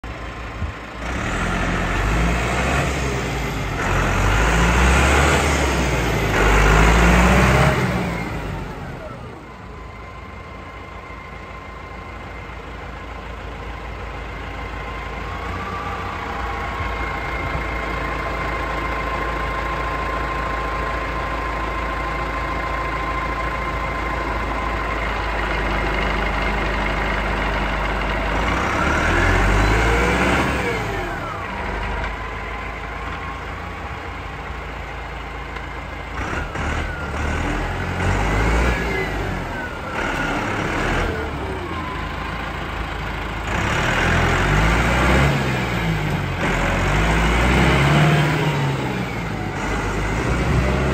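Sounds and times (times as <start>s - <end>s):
tractor diesel engine revving: 0.0s - 50.9s.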